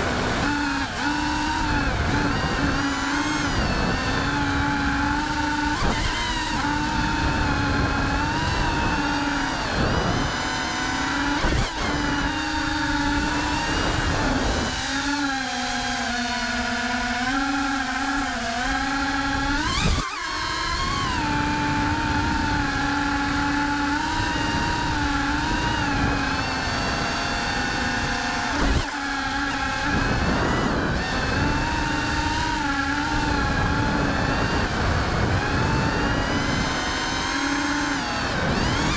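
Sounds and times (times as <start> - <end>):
drone motors buzzing whine: 0.0 - 38.9.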